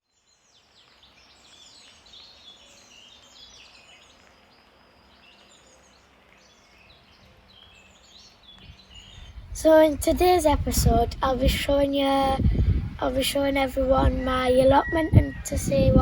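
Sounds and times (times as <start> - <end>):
birds chirping and trilling: 0.3 - 16.0.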